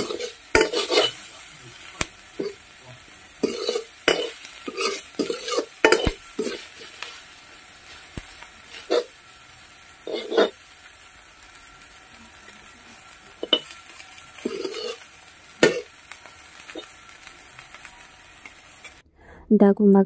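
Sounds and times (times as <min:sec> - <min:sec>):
metal spatula scraping wok: 0:00.0 - 0:10.7, 0:13.0 - 0:19.0
food sizzling: 0:00.0 - 0:19.0.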